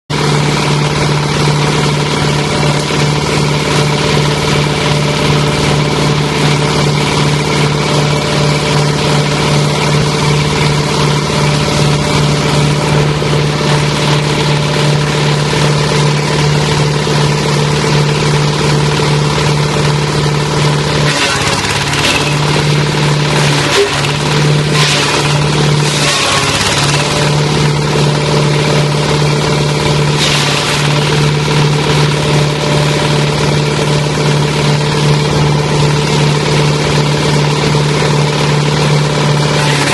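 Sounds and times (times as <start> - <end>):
diesel engine humming: 0.1 - 39.9.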